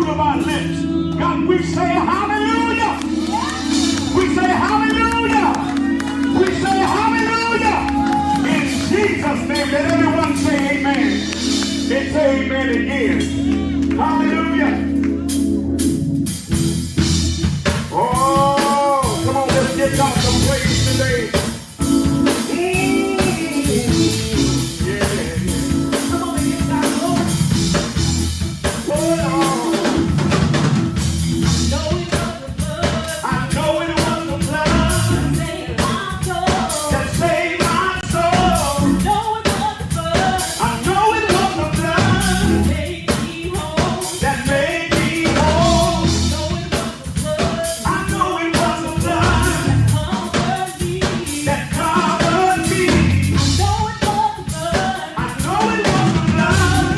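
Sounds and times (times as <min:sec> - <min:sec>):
gospel singing with drums and bass: 0:00.0 - 0:56.9.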